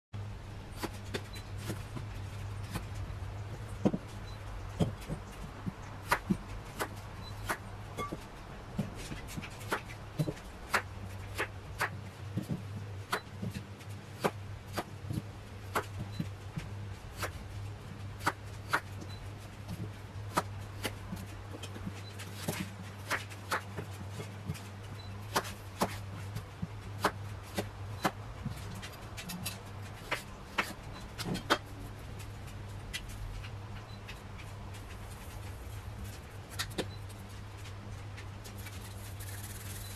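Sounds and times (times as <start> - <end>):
low steady hum: 0.2 - 39.9.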